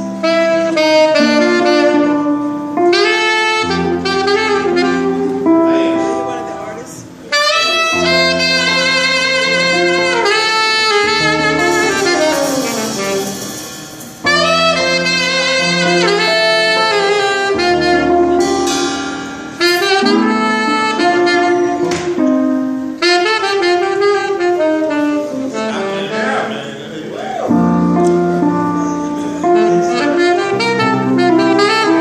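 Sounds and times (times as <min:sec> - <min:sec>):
backing chords: 0:00.0 - 0:32.0
saxophone jazz melody: 0:00.0 - 0:32.0.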